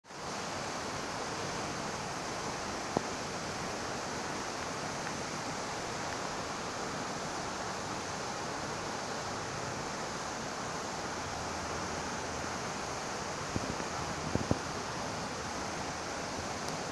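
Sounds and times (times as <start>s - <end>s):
pond water rushing: 0.0s - 16.9s.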